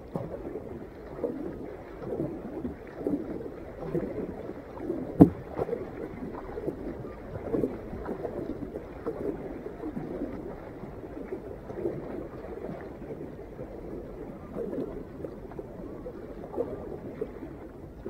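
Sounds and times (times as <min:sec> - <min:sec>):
paddle strokes in water: 0:00.0 - 0:18.0
water dripping along hull: 0:00.0 - 0:18.0.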